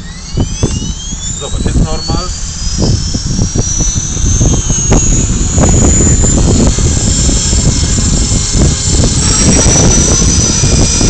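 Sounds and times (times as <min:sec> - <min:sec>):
model helicopter motor whine: 0:00.0 - 0:11.0
rotor blades whirring: 0:00.0 - 0:11.0
wind buffeting microphone: 0:00.0 - 0:11.0.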